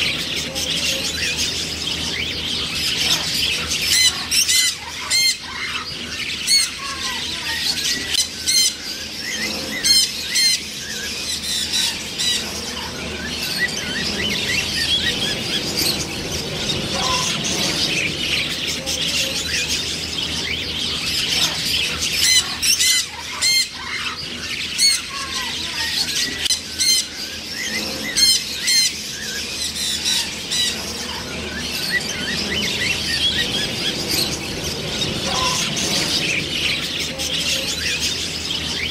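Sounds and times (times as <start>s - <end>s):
chatter of many birds: 0.0s - 38.9s
macaws squawking: 0.0s - 38.9s.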